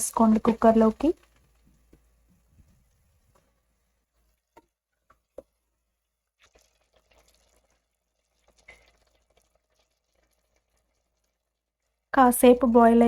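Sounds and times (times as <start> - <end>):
pressure cooker bubbling: 0.0 - 13.0.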